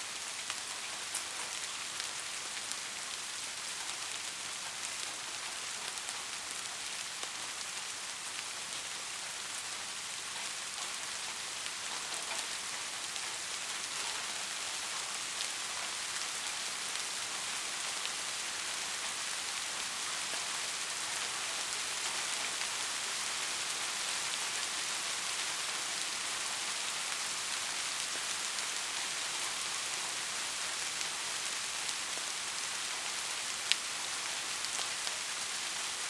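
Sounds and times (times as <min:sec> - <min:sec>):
heavy rain: 0:00.0 - 0:36.0.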